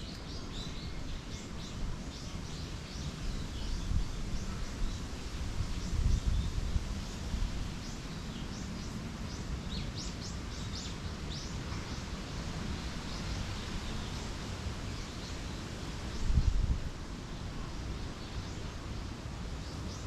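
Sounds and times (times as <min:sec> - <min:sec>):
small songbirds chirping: 0:00.0 - 0:20.0
wind rumble on microphone: 0:00.0 - 0:20.0.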